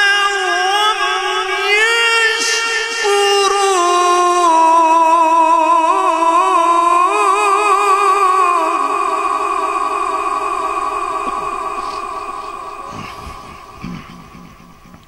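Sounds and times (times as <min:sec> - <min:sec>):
man chanting through a microphone: 0:00.0 - 0:15.0.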